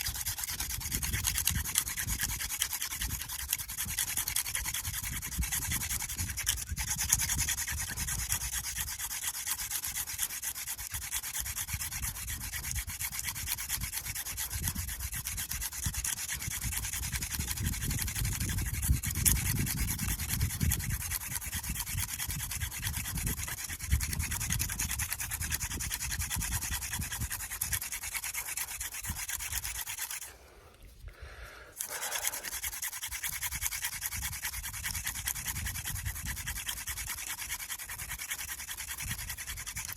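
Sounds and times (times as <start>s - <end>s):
hand drill spindle rubbing: 0.0s - 31.1s, 31.7s - 39.9s.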